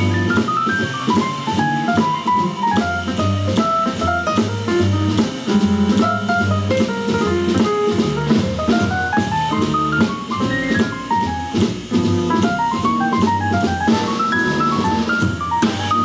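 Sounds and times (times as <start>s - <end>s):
drum kit: 0.0s - 16.0s
electric keyboard notes: 0.0s - 16.0s
upright bass: 0.0s - 16.0s.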